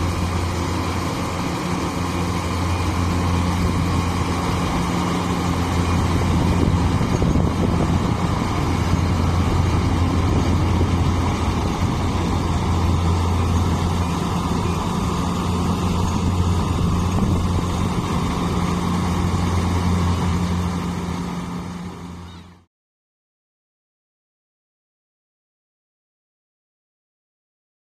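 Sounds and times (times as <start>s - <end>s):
engine humming steadily: 0.0s - 22.7s.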